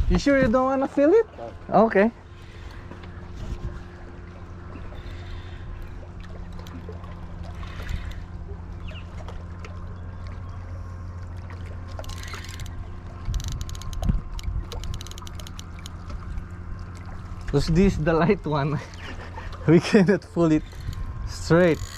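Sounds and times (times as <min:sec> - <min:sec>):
boat motor humming: 0:00.0 - 0:21.9
light water sounds: 0:00.0 - 0:21.9.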